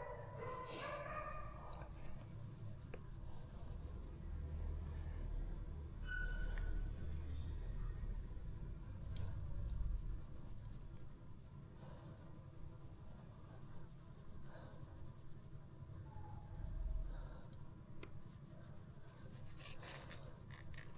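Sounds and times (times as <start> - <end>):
faint scratching and rubbing: 0.4 - 6.0, 6.7 - 11.5, 12.4 - 17.0, 18.2 - 20.9.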